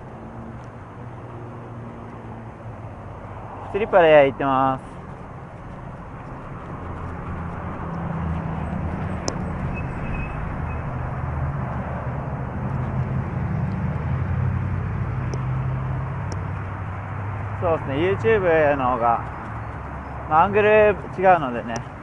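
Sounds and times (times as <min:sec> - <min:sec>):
road noise: 0:00.0 - 0:22.0
vehicle engine running close by: 0:00.0 - 0:22.0.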